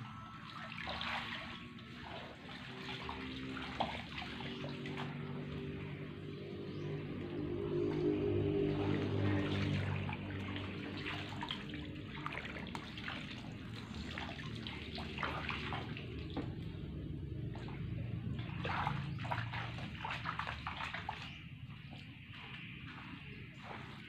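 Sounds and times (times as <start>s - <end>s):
bare feet wading through water: 0.0s - 24.0s
pond water splashing and dripping: 0.0s - 24.0s.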